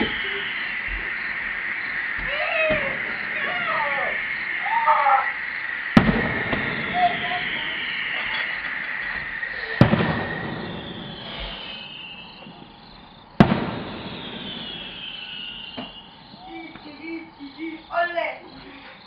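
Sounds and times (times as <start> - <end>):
fireworks bangs with crackle: 0.0 - 18.6.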